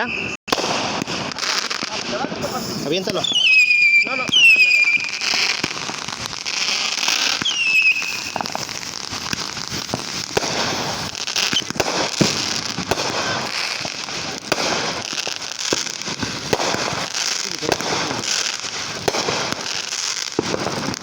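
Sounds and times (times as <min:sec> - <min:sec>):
falling firework whistle: 0:00.0 - 0:01.7, 0:02.4 - 0:21.0
fireworks crackling: 0:00.0 - 0:21.0.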